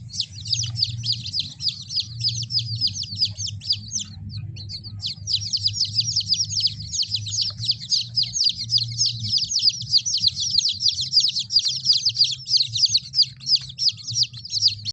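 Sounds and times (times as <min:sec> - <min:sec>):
chicks peeping: 0:00.0 - 0:14.9
low steady hum: 0:00.0 - 0:14.9.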